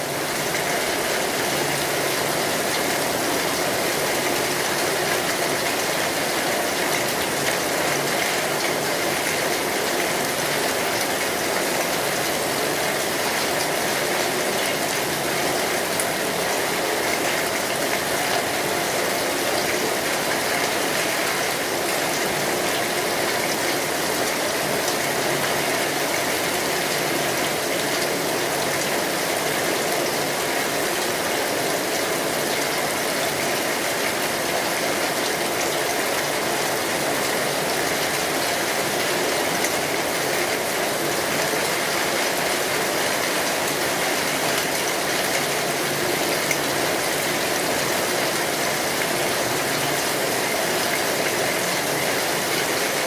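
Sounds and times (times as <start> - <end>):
rain drumming on an umbrella: 0.0 - 53.0.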